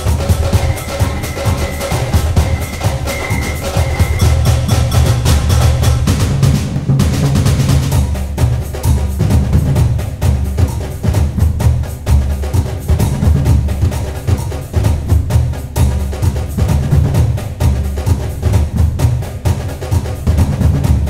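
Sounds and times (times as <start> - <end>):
music with drums and percussion: 0.0 - 21.0.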